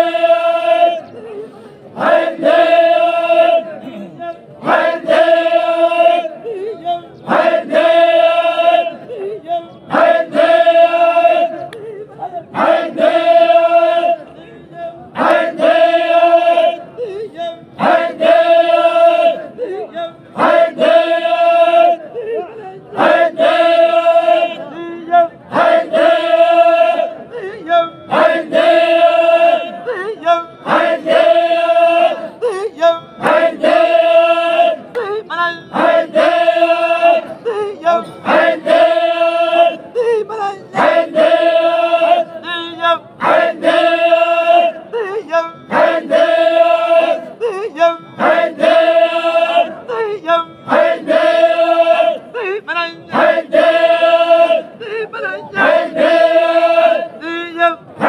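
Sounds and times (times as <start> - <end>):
group chanting in unison: 0.0 - 1.1, 1.8 - 9.3, 9.9 - 11.7, 12.4 - 14.5, 15.1 - 22.2, 22.8 - 32.5, 33.2 - 40.0, 40.7 - 58.0.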